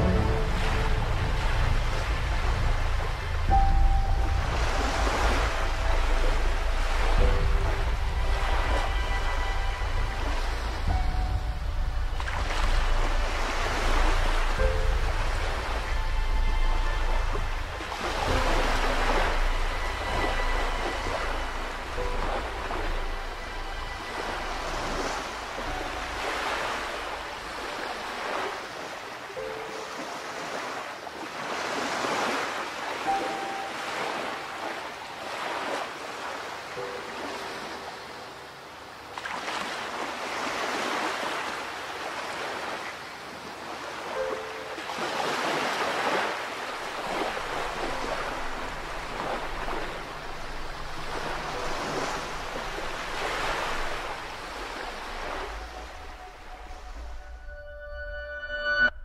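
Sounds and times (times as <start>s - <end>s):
sea waves washing and splashing: 0.0s - 57.5s.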